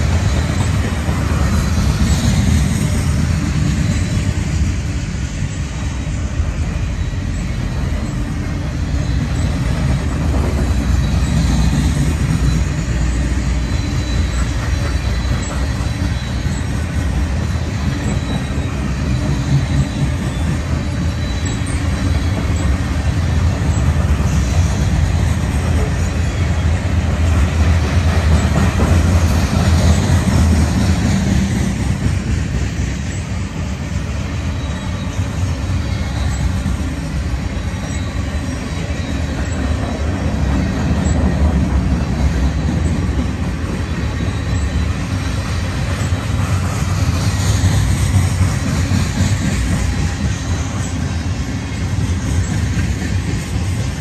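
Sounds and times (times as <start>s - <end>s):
high wheel squeal: 0.0s - 54.0s
train wheels rumbling on rail: 0.0s - 54.0s.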